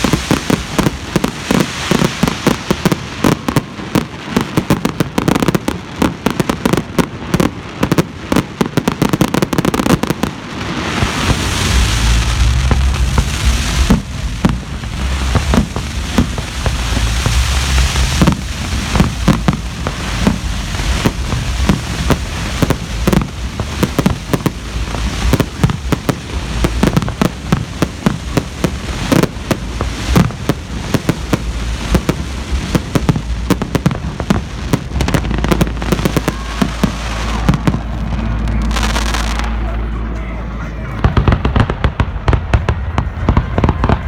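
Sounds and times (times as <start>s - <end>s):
fireworks bangs and pops: 0.0s - 40.0s, 40.9s - 44.0s.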